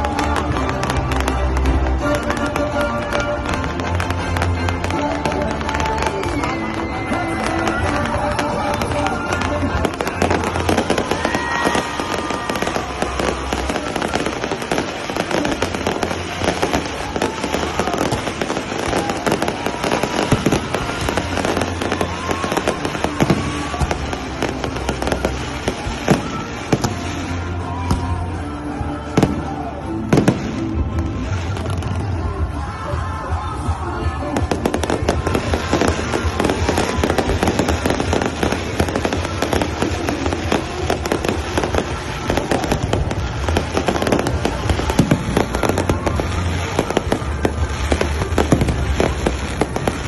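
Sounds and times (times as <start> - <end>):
loud fireworks bangs: 0.0 - 28.3, 29.0 - 32.4, 34.1 - 50.0
background music: 0.0 - 50.0
fireworks crackling and popping: 0.0 - 50.0.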